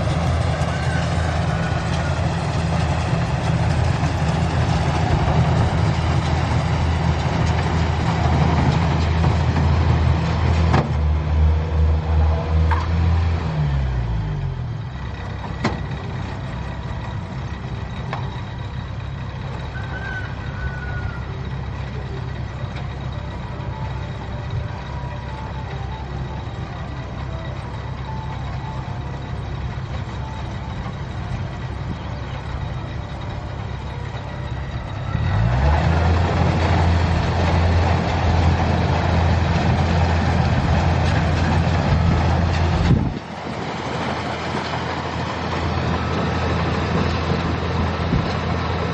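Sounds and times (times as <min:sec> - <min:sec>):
combine harvester engine running: 0:00.0 - 0:48.9.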